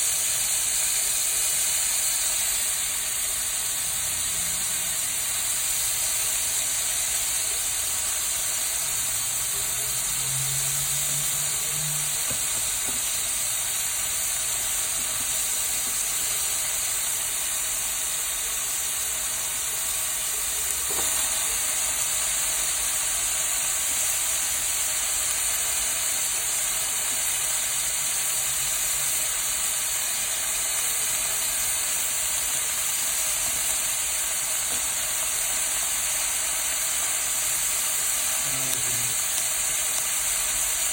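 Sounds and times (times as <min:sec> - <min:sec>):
vegetables sizzling in a pan: 0:00.0 - 0:40.9.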